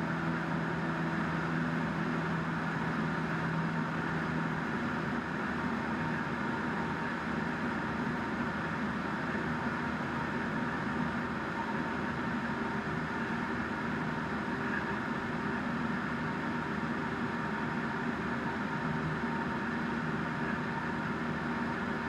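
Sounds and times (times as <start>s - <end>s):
light aircraft engine droning: 0.0s - 22.0s.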